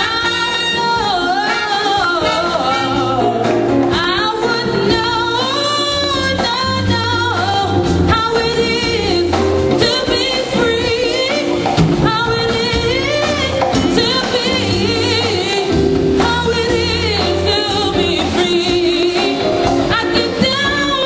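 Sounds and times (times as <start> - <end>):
drums and cymbals: 0.0 - 21.0
person singing with vibrato: 0.0 - 21.0
sustained bass notes: 0.0 - 21.0.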